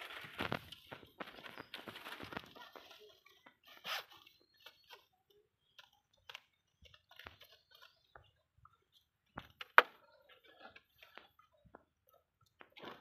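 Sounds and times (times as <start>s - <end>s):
faint clicks and rustles: 0.0s - 13.0s.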